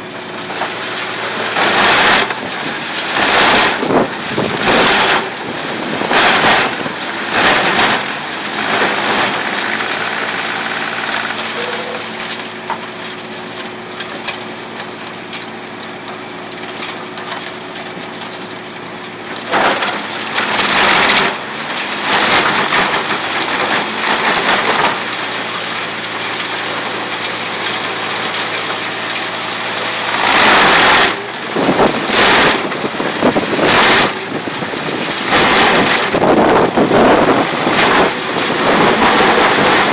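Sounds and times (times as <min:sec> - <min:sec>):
wood being crunched and shredded: 0:00.0 - 0:39.9
wood chipper engine humming: 0:00.0 - 0:39.9.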